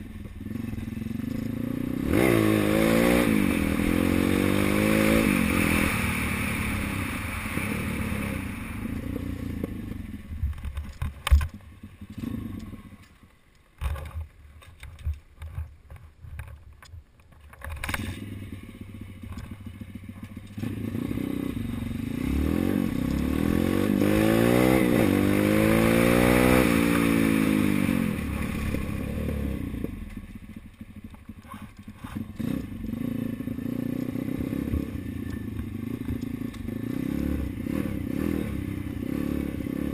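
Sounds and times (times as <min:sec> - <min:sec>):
dirt bike engine revving: 0:00.0 - 0:10.3, 0:11.8 - 0:12.9, 0:17.8 - 0:39.9.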